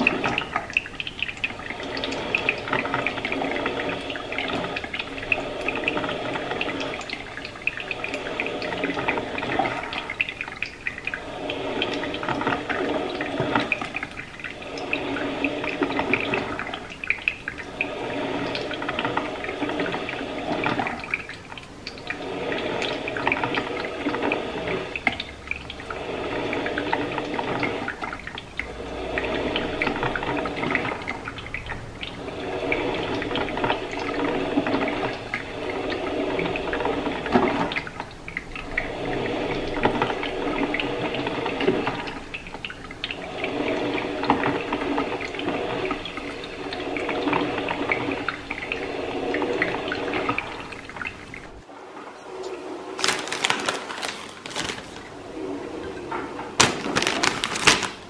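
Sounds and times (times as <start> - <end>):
coffee maker water gurgling: 0.0 - 58.0.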